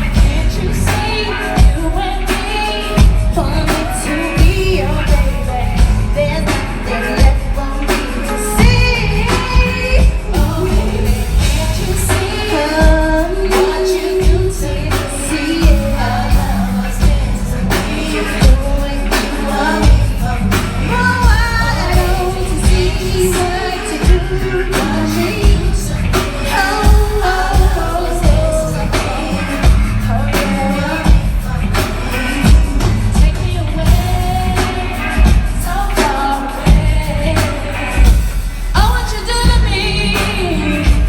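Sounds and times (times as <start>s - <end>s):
r and b song through pa: 0.0s - 41.0s.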